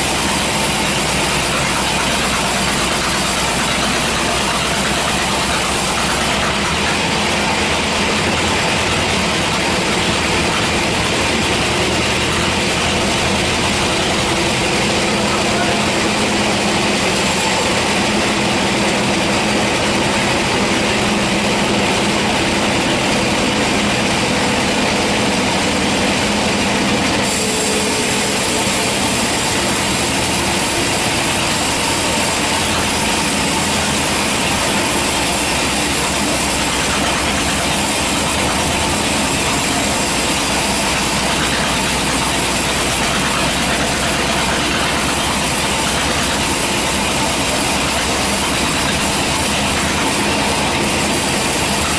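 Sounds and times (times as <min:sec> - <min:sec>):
band saw cutting log: 0:00.0 - 0:51.9.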